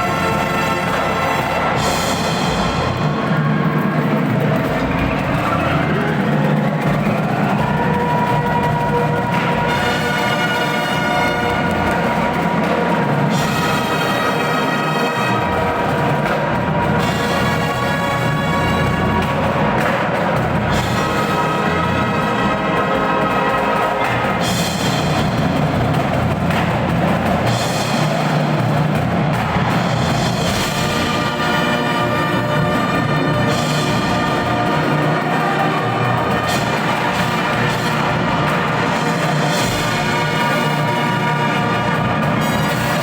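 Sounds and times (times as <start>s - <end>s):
drums and percussion: 0.0s - 43.0s
marching band playing: 0.0s - 43.0s.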